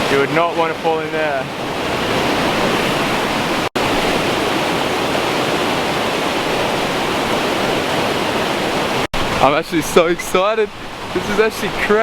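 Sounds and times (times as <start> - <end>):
waterfall rushing into pool: 0.0 - 12.0.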